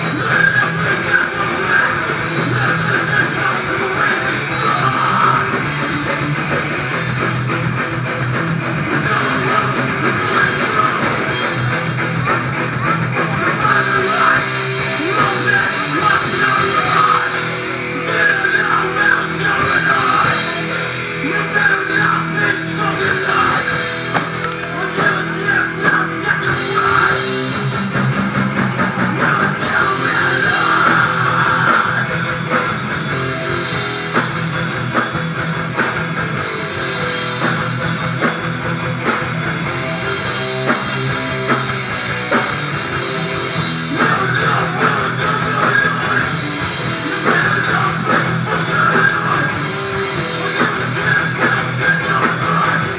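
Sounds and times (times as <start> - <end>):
electric guitars: 0.0 - 52.9
pounding drum kit: 0.0 - 52.9.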